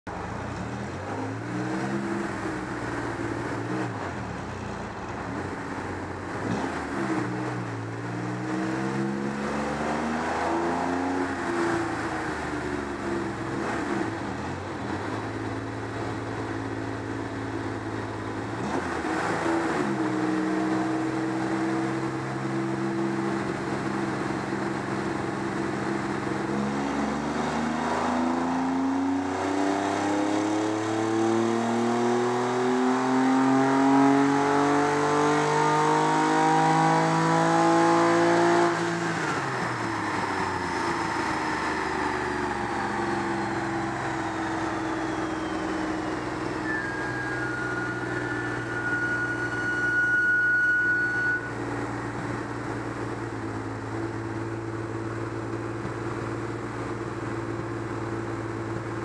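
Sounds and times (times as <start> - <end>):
car engine on dynamometer: 0.1 - 59.0.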